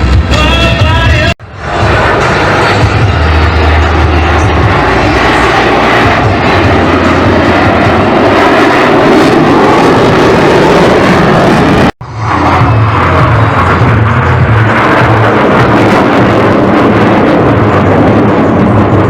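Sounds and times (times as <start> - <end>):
loud aircraft engine: 0.0 - 19.0.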